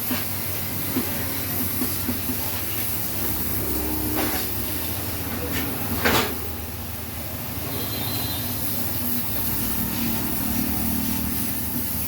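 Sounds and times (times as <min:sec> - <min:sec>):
vehicle engine running: 0:00.3 - 0:12.0.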